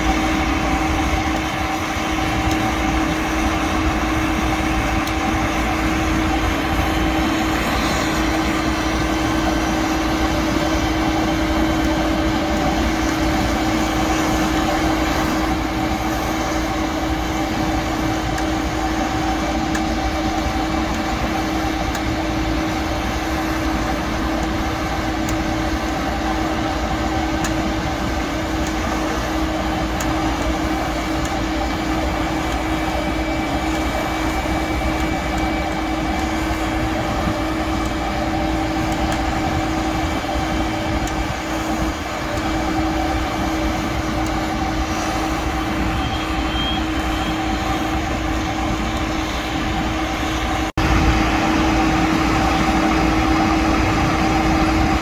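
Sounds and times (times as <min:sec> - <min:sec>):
heavy machinery droning: 0:00.0 - 0:55.0.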